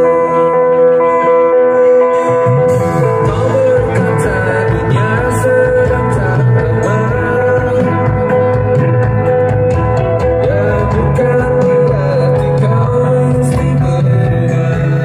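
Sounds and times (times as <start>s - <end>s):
live rock band with guitar: 0.0s - 15.0s.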